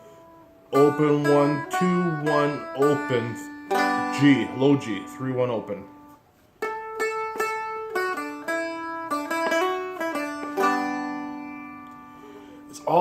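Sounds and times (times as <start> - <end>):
plucked string melody: 0.0 - 13.0
strummed chord ringing: 0.0 - 13.0.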